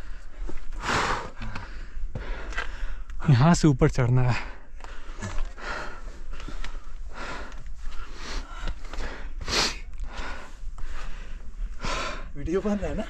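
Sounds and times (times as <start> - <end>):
person breathing heavily: 0.0 - 3.2, 4.3 - 13.0.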